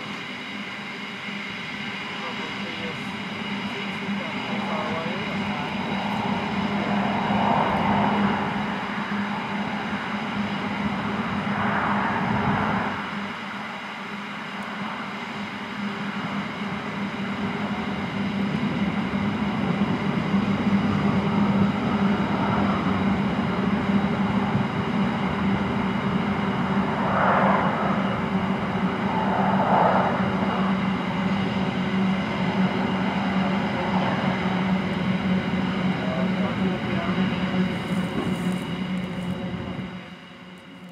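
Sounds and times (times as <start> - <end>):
freight train wheels rumbling: 0.0 - 40.9
low hum: 0.0 - 40.9.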